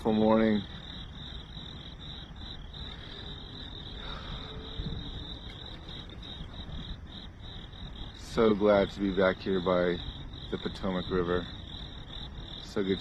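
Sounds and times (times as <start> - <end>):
faint low rumble: 0.0 - 13.0
insects chirping: 0.0 - 13.0.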